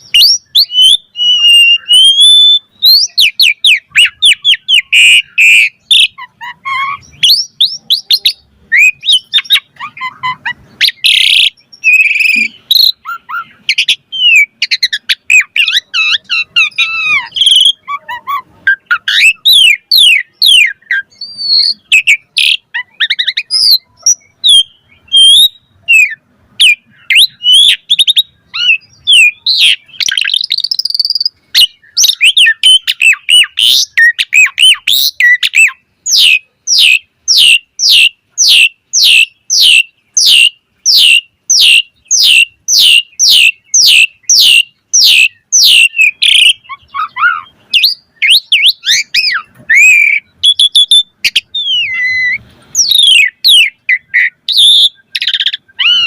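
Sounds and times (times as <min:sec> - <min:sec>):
starling singing whistles and chirps: 0:00.0 - 0:56.0.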